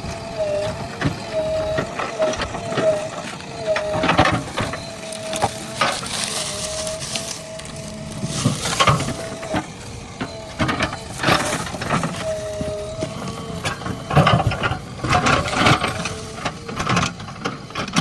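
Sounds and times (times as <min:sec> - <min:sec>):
brush and wood crunching: 0:00.0 - 0:18.0
machine whine: 0:00.0 - 0:18.0.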